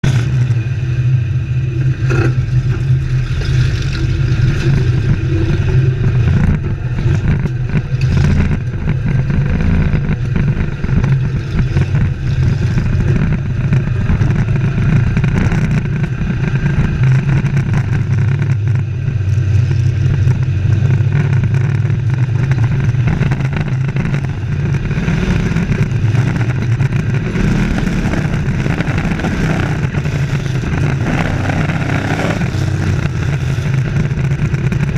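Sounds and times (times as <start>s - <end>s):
race truck engines droning: 0.0s - 34.9s.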